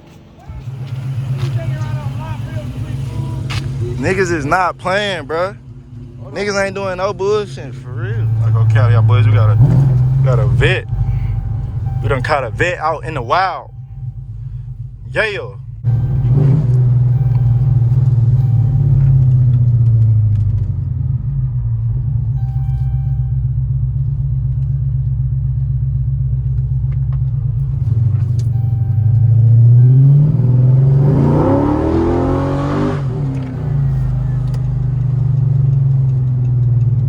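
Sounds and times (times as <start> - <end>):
car engine running and revving: 0.0 - 37.0.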